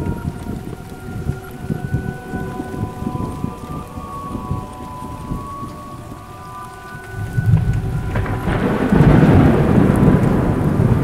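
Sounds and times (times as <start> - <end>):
faint steady tones: 0.0 - 11.0
steady rain: 0.0 - 11.0
thunder rumbling: 0.0 - 11.0.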